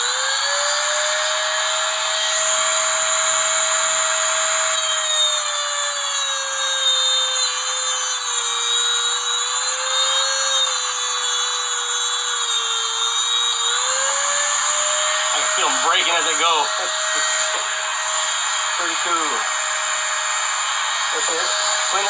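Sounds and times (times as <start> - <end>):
rotary tool whining: 0.0 - 22.0.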